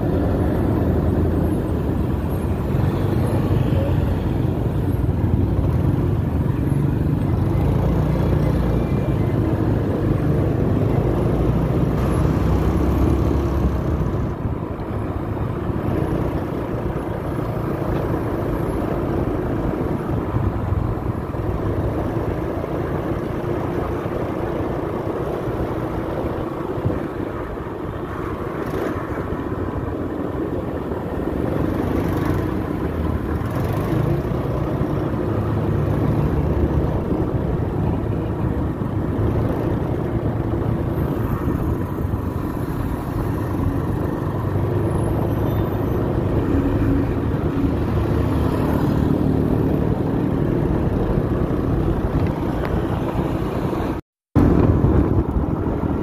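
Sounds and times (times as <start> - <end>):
passing traffic: 0.0 - 56.0
wind and road noise: 0.0 - 56.0.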